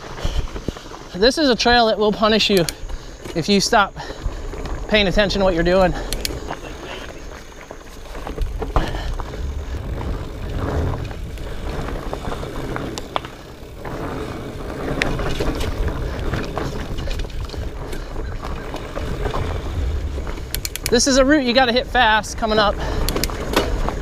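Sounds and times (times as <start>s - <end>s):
bike rattling over rocks: 0.0s - 24.0s
bike tyres rumbling: 0.0s - 24.0s.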